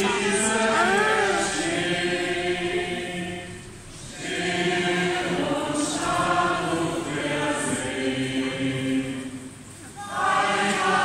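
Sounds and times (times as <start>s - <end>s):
choir singing unaccompanied: 0.0s - 11.0s.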